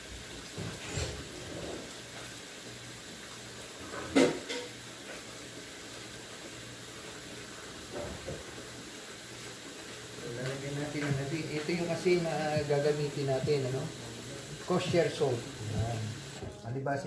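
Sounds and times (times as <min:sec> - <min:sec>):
tap water running into pot: 0:00.0 - 0:16.6.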